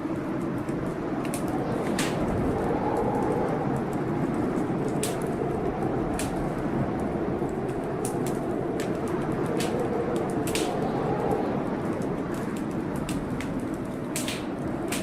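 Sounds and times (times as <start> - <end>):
howling blizzard wind: 0.0 - 15.0
wood fire crackling and popping: 0.0 - 15.0.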